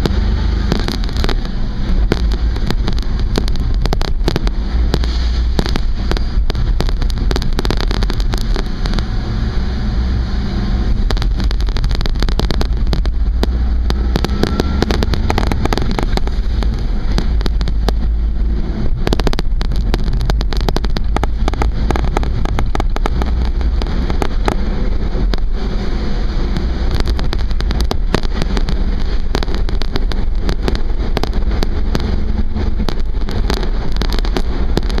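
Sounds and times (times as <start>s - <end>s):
crackling clicks: 0.0s - 9.2s, 10.9s - 35.0s
engine and road noise rumble: 0.0s - 35.0s.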